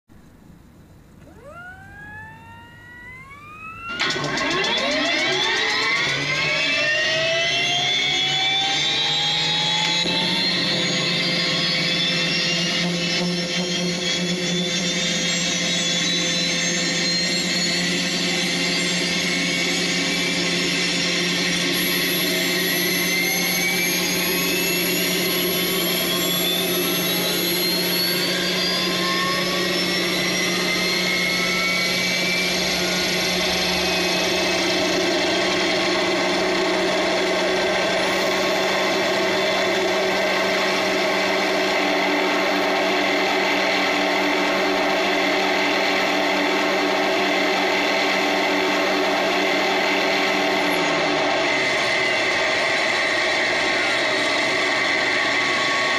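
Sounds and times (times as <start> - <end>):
model helicopter motor whine: 1.2 - 55.9.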